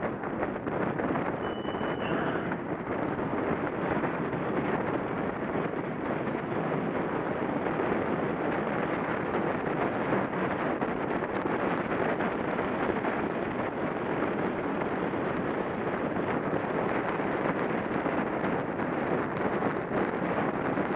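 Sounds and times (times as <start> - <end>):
wind rushing over microphone: 0.0 - 20.9.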